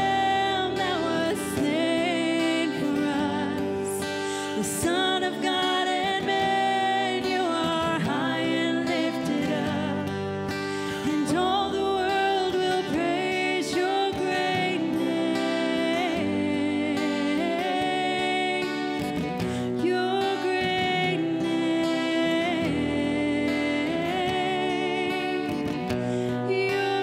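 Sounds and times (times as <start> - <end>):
women singing into microphones: 0.0 - 27.0.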